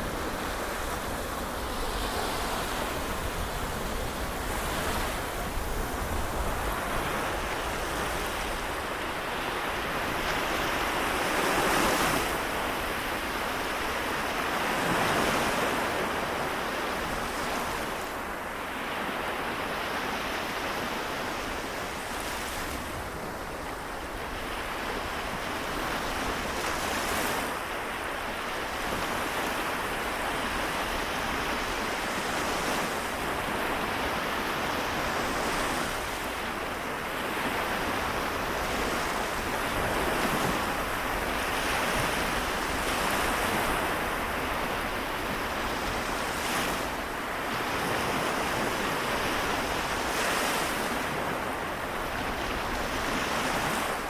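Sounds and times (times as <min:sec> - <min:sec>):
waves breaking: 0:00.0 - 0:54.0.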